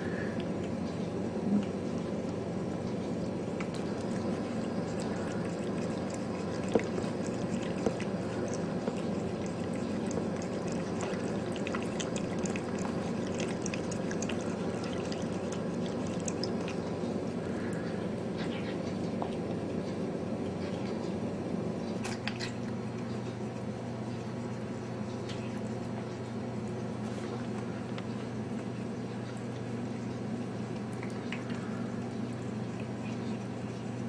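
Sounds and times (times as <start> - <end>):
cat lapping water: 0.0 - 34.0.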